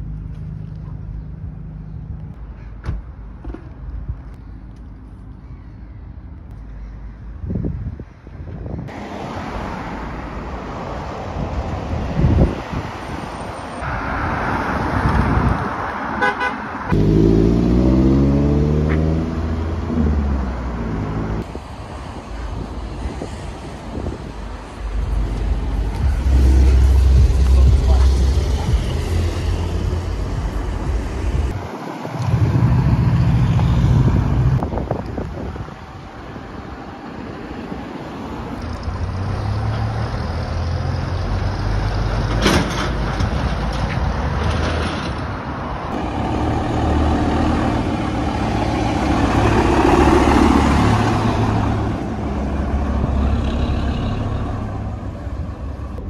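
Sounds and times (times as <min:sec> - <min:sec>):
buses driving past and idling: 0:00.0 - 0:56.0.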